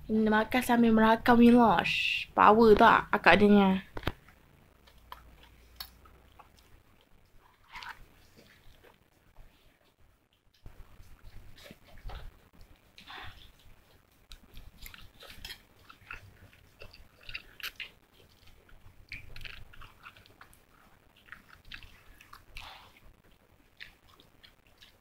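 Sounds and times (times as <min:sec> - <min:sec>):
person chewing and slurping noodles: 0:04.8 - 0:25.0.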